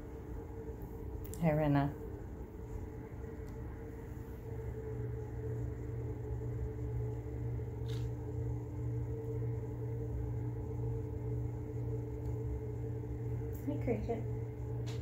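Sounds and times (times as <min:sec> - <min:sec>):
faint steady tones: 0:00.0 - 0:15.0
steady low hum: 0:00.0 - 0:15.0.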